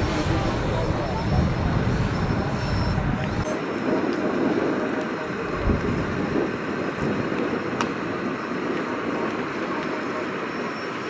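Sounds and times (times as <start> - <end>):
boat engine running: 0.0 - 11.0
wind on microphone: 0.0 - 11.0.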